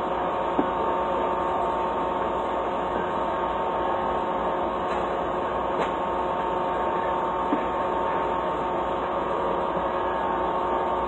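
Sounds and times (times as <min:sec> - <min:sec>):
steady machine hum with tones: 0:00.0 - 0:11.0.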